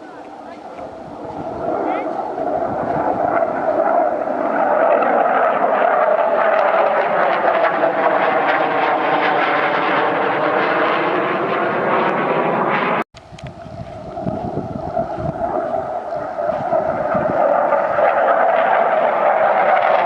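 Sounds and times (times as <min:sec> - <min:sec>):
jet aircraft taking off: 0:00.0 - 0:20.0.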